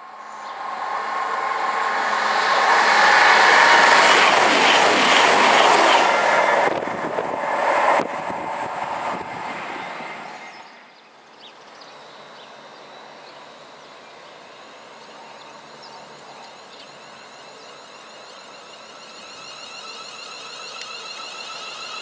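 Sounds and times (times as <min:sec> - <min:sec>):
diesel train rushing past: 0:00.0 - 0:11.0, 0:14.8 - 0:22.0.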